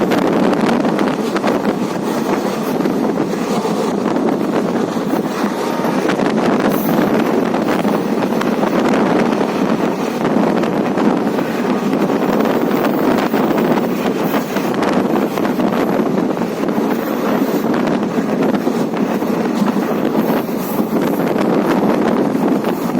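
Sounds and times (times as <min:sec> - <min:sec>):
moving vehicle running noise: 0:00.0 - 0:22.9
wind noise on microphone: 0:00.0 - 0:22.9.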